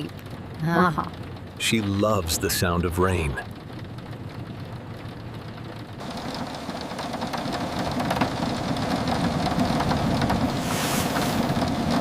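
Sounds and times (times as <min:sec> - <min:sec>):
heavy rain pattering: 0:00.0 - 0:12.0
vehicle driving on road: 0:00.0 - 0:12.0.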